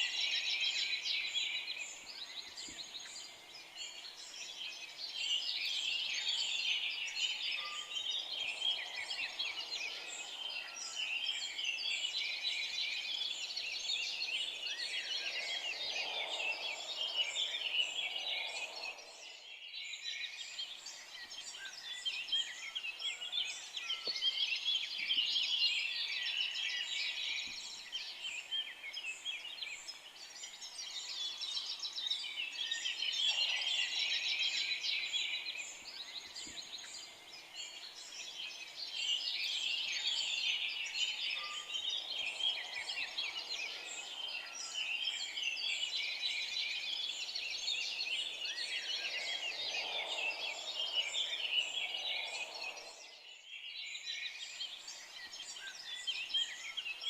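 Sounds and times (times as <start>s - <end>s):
forest birds chirping and singing: 0.0s - 57.0s.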